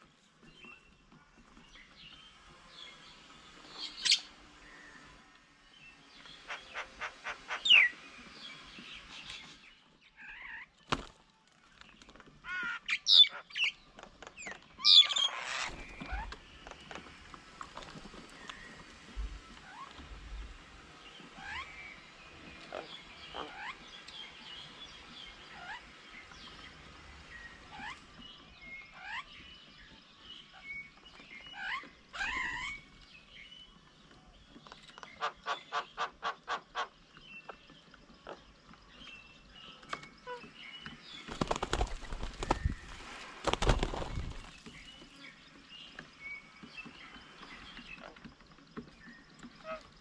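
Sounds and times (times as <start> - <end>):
wild birds chirping: 0.0 - 50.0.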